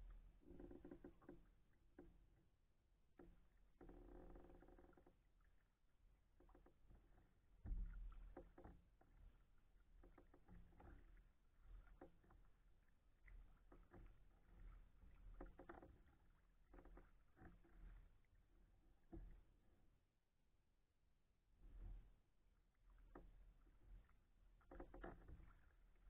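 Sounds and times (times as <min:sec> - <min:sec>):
paddle strokes in water: 0:00.0 - 0:02.4, 0:03.0 - 0:20.0, 0:21.5 - 0:26.0.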